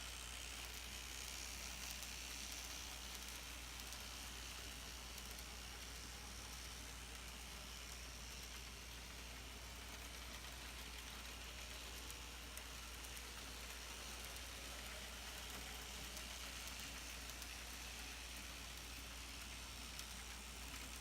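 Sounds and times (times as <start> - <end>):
model trams running on track: 0.0 - 21.0.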